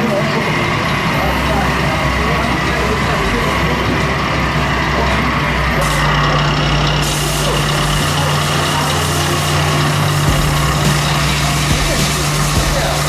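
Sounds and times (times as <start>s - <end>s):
electronic diesel engine sound: 0.0s - 13.0s
steady hum: 0.0s - 13.0s.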